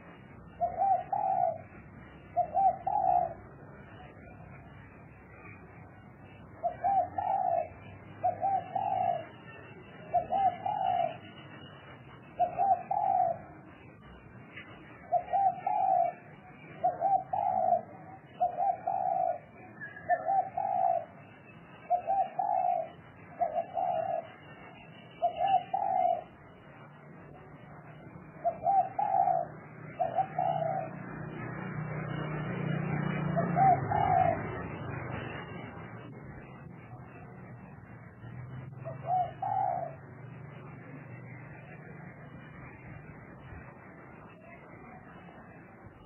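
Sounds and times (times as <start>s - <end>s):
dove cooing: 0.0s - 37.6s, 38.2s - 44.6s.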